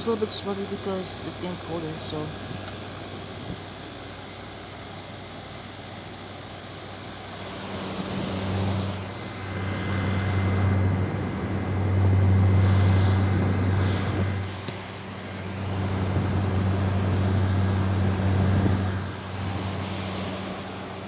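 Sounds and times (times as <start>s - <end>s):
air conditioner fan hiss: 0.0s - 21.0s
compressor low hum: 0.0s - 21.0s.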